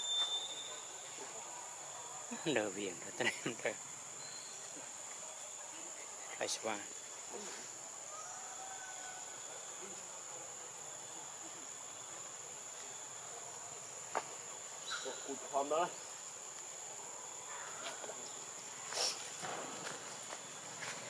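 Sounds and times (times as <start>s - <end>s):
high-pitched insect drone: 0.0s - 7.3s, 8.0s - 21.0s.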